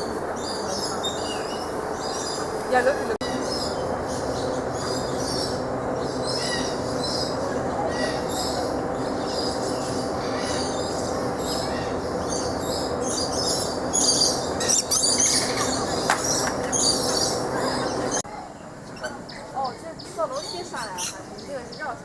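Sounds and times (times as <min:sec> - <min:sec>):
loud steady hum: 0:00.0 - 0:18.2
birds chirping: 0:00.0 - 0:22.0.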